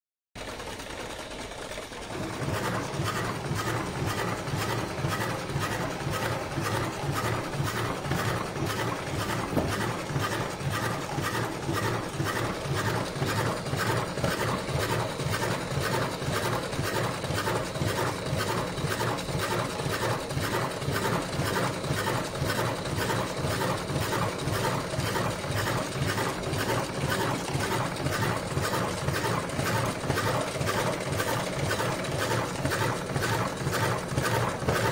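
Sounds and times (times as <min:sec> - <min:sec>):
machine mechanism clattering: 0:00.4 - 0:34.9.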